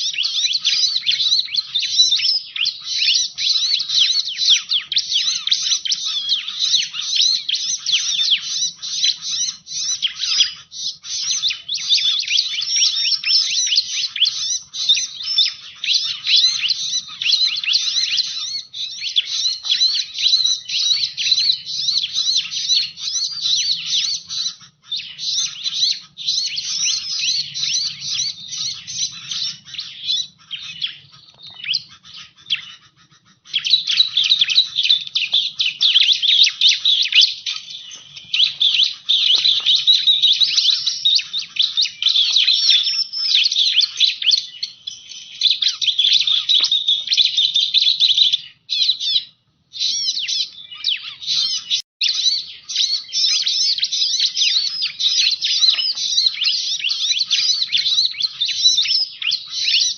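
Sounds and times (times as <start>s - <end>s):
bird song high chirps and trills: 0.0s - 59.9s.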